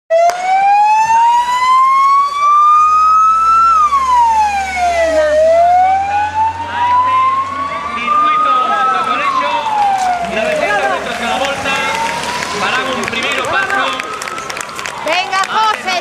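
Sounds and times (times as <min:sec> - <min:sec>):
vehicle siren wailing: 0:00.1 - 0:16.0.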